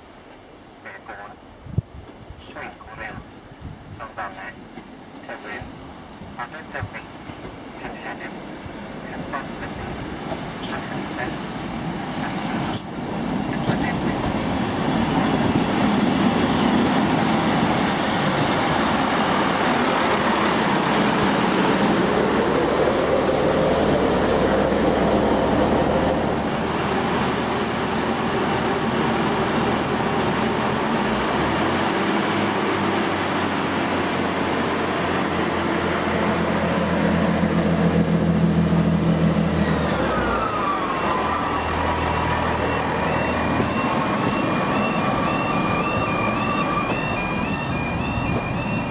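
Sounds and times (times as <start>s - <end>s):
diesel train running: 2.5s - 48.9s.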